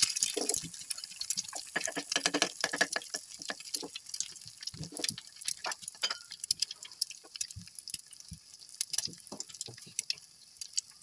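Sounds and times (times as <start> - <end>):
eggs sizzling in hot oil: 0.0 - 11.0.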